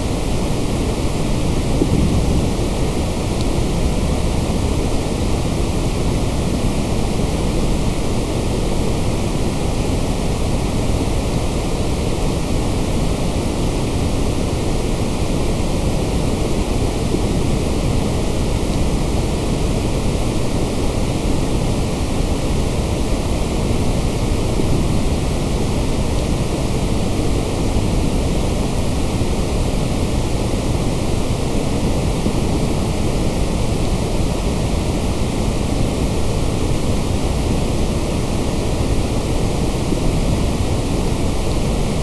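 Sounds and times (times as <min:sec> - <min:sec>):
white noise hiss: 0:00.0 - 0:42.0.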